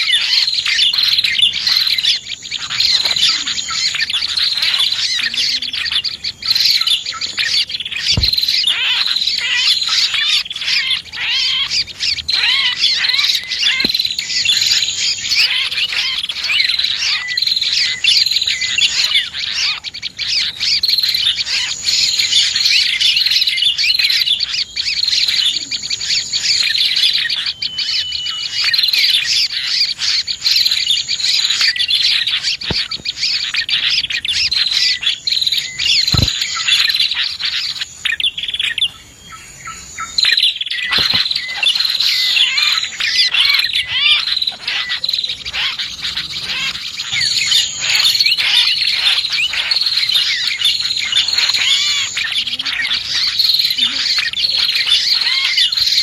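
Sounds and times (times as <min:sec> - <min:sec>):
high buzzy bird trill: 0:00.0 - 0:56.0
small birds chirping: 0:00.0 - 0:56.0.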